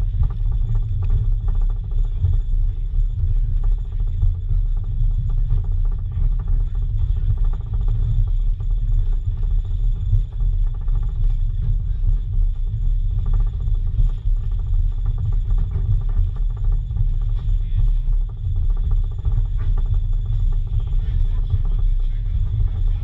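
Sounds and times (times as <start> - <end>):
low rumble of a train: 0.0 - 23.0.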